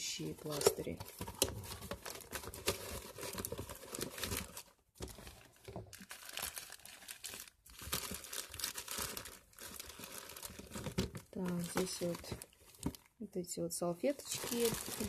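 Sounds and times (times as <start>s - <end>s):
wrappers crinkling: 0.4s - 13.1s, 14.1s - 15.0s.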